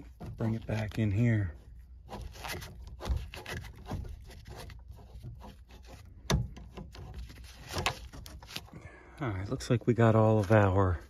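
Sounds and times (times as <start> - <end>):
tubing cutter scraping copper: 0.0 - 8.7, 9.5 - 11.0.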